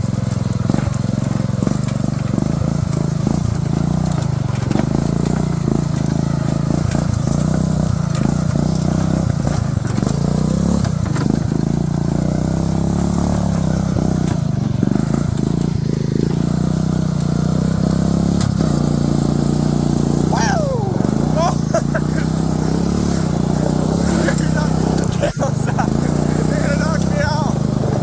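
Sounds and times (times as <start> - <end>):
riding lawnmower engine running: 0.0 - 28.0.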